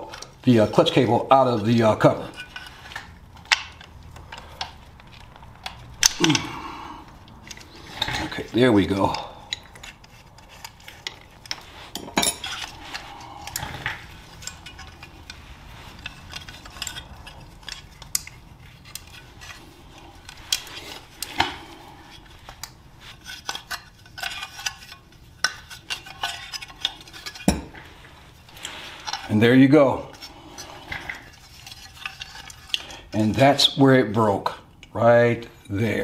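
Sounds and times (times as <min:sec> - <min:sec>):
metal tools clinking: 0:00.0 - 0:33.8.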